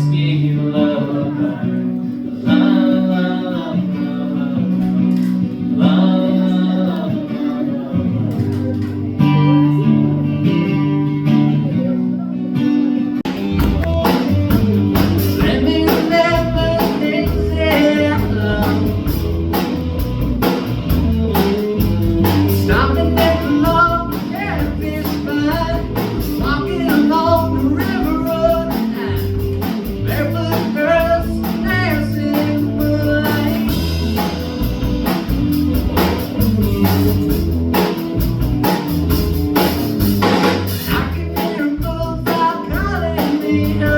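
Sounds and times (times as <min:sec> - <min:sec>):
guitar: 0:00.0 - 0:43.9
live band playing: 0:00.0 - 0:43.9.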